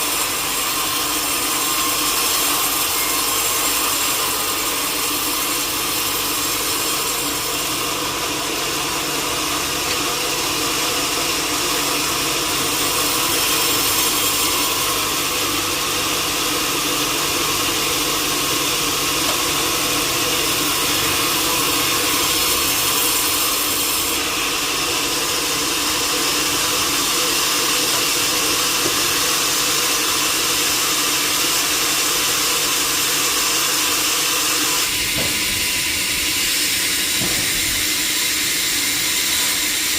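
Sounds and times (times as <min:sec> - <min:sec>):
saw cutting wood: 0:00.0 - 0:39.9
steady machinery hum: 0:00.0 - 0:39.9.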